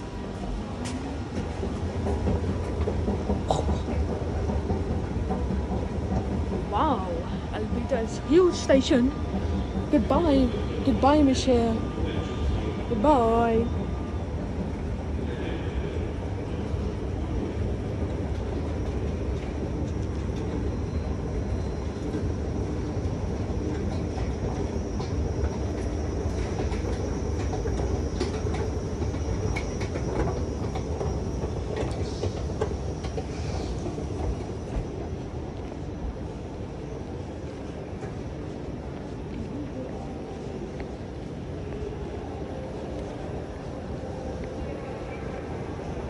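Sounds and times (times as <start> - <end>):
metro train rumbling: 0.0 - 46.0.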